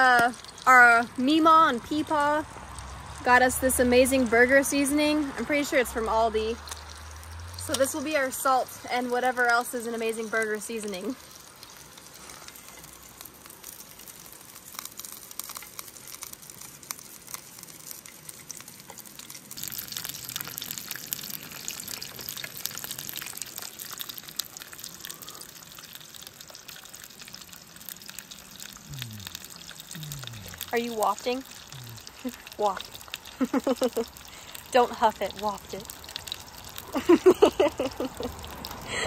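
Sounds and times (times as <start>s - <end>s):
fish sizzling in a frying pan: 0.0s - 39.0s.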